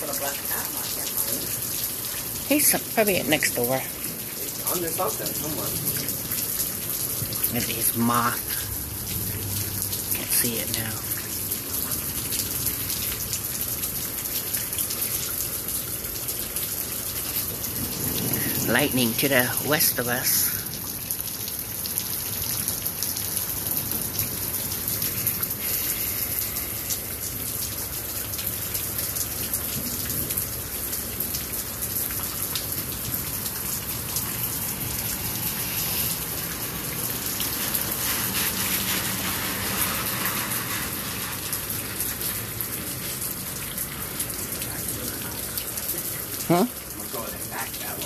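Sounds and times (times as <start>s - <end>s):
rain pattering on ground: 0.0s - 48.0s.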